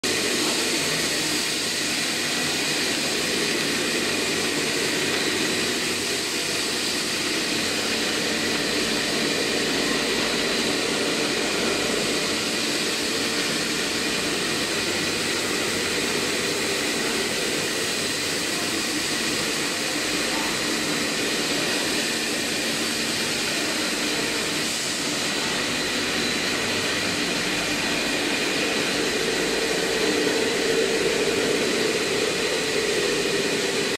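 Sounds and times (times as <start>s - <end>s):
machine hum and hiss: 0.0s - 33.9s
faint machine whines: 0.1s - 33.9s.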